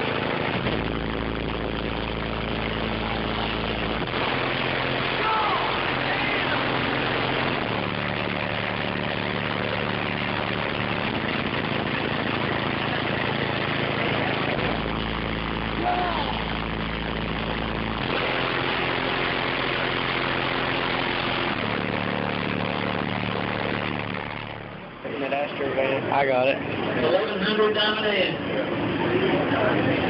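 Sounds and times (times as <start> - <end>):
distorted subwoofer bass notes: 0.0 - 30.0.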